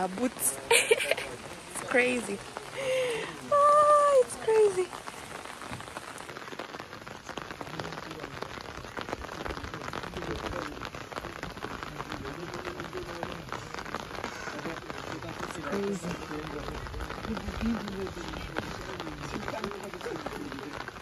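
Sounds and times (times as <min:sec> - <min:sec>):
raindrops ticking on umbrella: 0:00.0 - 0:21.0
steady rain falling: 0:00.0 - 0:21.0.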